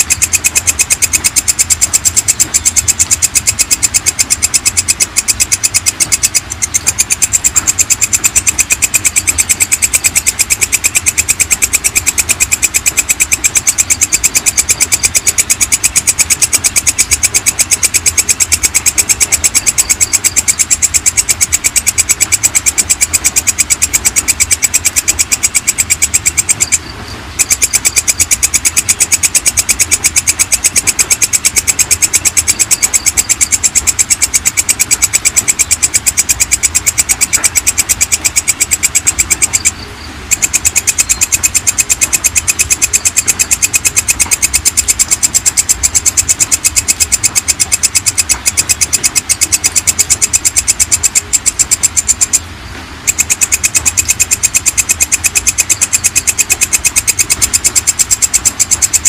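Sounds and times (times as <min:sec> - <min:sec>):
katydid rasping chirps: 0:00.0 - 0:59.0.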